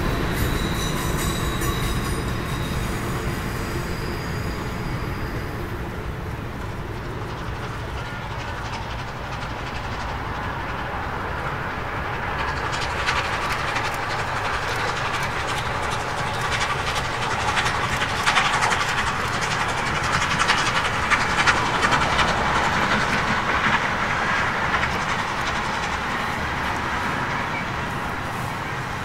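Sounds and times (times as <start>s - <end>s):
steam train rumbling past: 0.0s - 29.0s
wheels clickety-clack: 0.0s - 29.0s.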